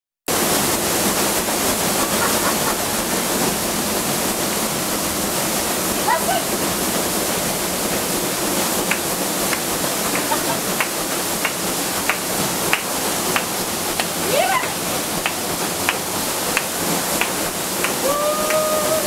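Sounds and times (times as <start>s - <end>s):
paddle wheel splashing water: 0.3s - 19.0s.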